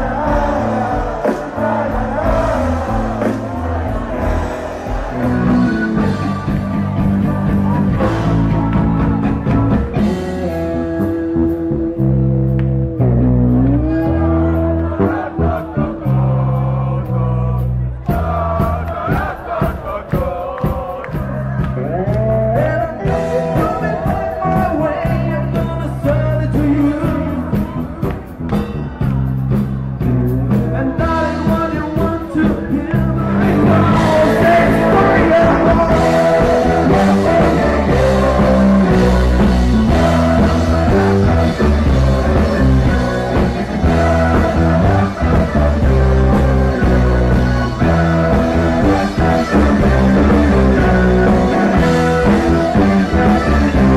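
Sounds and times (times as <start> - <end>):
rock band with singer: 0.0 - 53.9.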